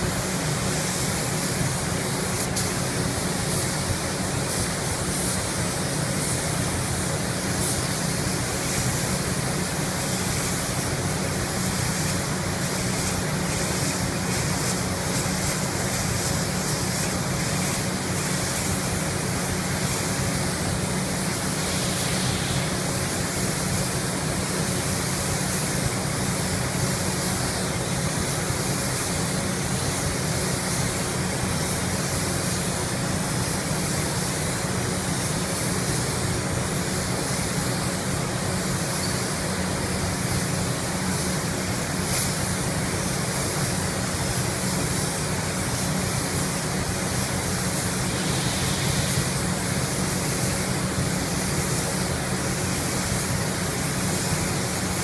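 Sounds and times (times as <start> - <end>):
spray gun air hiss: 0.0 - 55.0.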